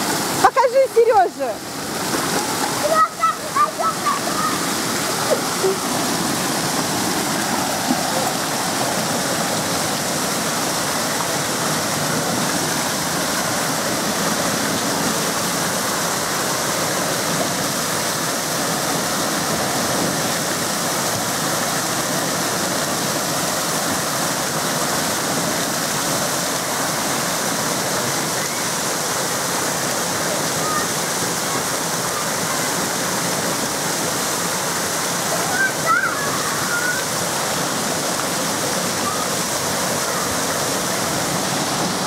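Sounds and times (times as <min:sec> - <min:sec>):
water falling and splashing: 0:00.0 - 0:42.0.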